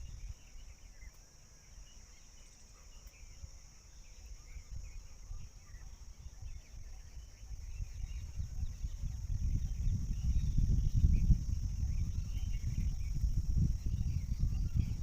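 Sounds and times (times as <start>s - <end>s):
faint chirps: 0.0s - 15.0s.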